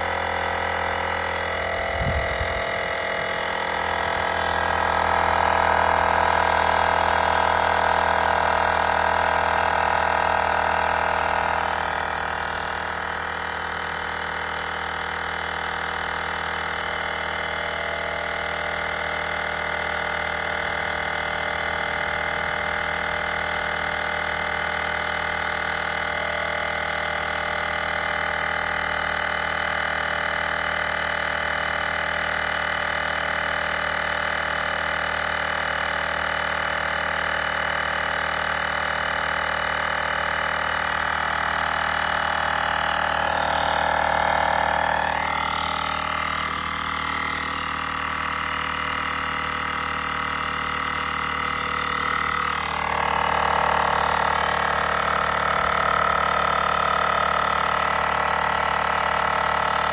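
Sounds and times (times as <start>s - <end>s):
small motor electric hum: 0.0s - 59.9s.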